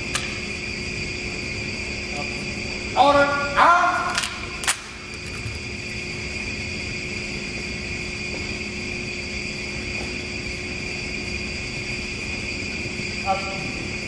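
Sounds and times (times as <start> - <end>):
faint high-pitched whine and hum: 0.0 - 14.0.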